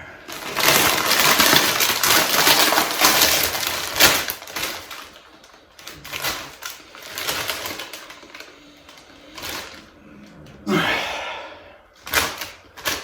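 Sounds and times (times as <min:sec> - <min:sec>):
chip packet crinkling: 0:00.2 - 0:10.6, 0:12.0 - 0:13.0.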